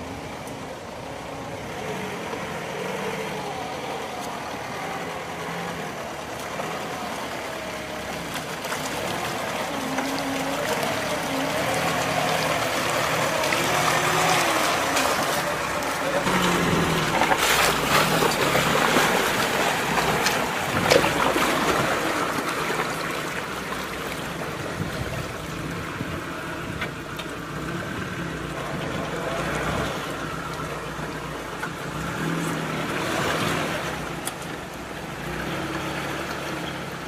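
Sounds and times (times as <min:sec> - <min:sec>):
car engine running: 0:00.0 - 0:37.0
water rushing and splashing: 0:00.0 - 0:37.0.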